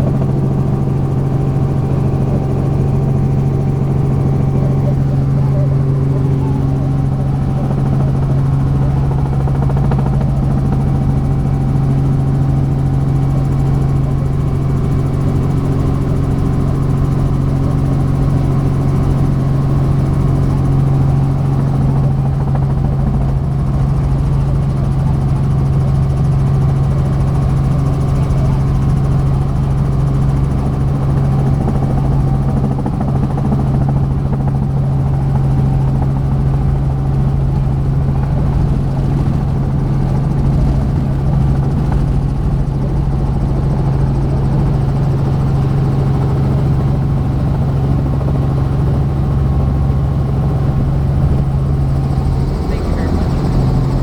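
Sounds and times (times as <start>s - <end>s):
helicopter rotor and turbine drone: 0.0s - 54.0s.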